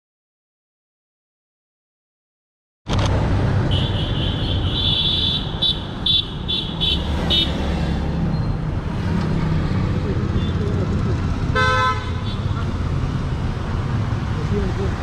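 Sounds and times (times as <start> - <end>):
busy street traffic: 2.9 - 15.0.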